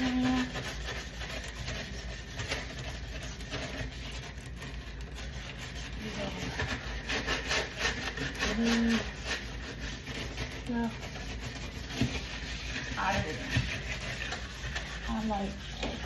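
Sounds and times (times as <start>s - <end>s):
scrubbing and scraping plastic bin: 0.0s - 16.0s.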